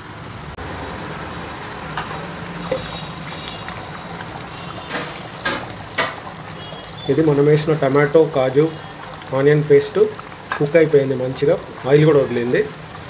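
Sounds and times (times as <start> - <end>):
curry bubbling in a pot: 0.6 - 13.0.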